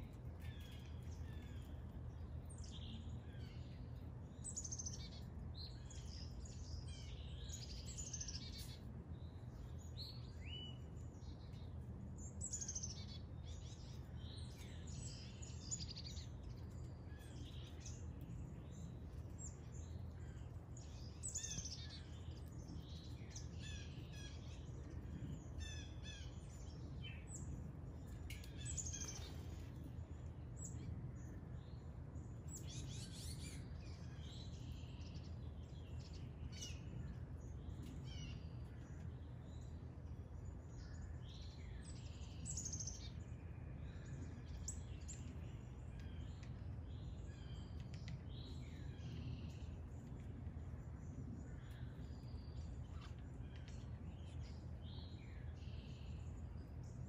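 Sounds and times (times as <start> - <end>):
small birds chirping and singing: 0.0 - 57.0.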